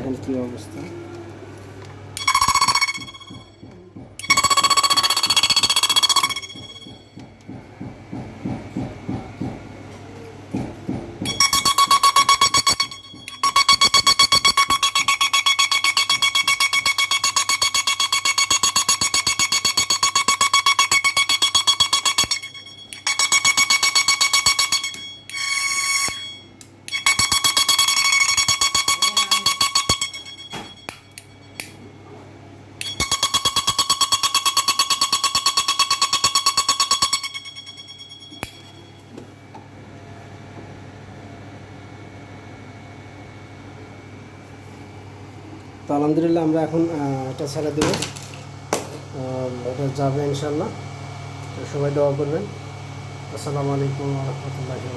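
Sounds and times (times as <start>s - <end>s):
high pulsing electrical buzz: 2.2s - 7.2s, 11.2s - 32.0s, 32.6s - 39.5s, 41.7s - 54.9s.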